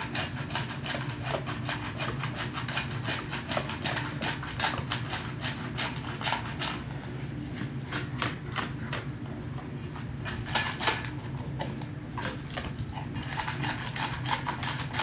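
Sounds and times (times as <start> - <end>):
dog crunching food: 0.0 - 15.0.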